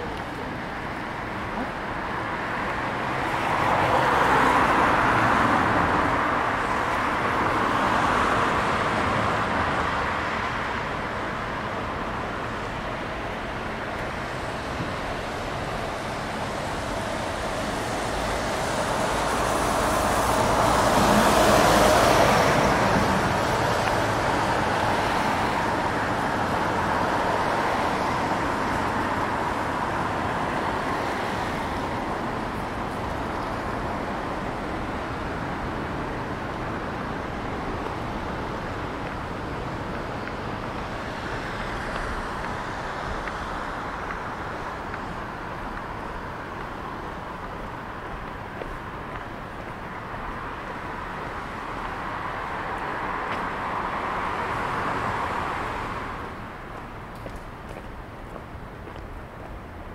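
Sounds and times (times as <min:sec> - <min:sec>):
cars passing on wet road: 0:00.0 - 0:59.9
traffic hum: 0:00.0 - 0:59.9.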